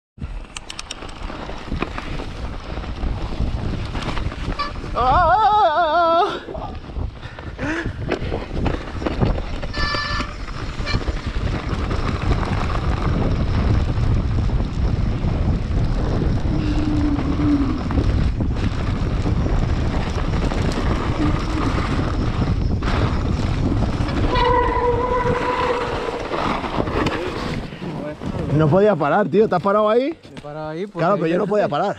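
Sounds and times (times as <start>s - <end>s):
mountain bike rattle and rumble: 0.2s - 31.9s
wind buffeting microphone: 0.2s - 31.9s.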